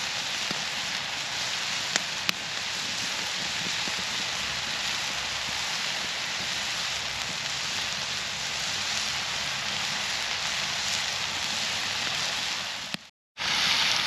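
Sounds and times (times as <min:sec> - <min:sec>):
vegetables sizzling in cast iron: 0:00.0 - 0:14.0.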